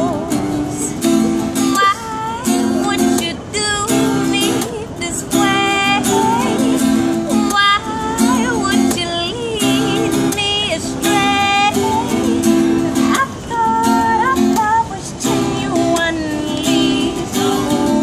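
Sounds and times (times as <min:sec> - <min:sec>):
strummed acoustic guitar: 0:00.0 - 0:18.0
woman singing: 0:00.0 - 0:18.0.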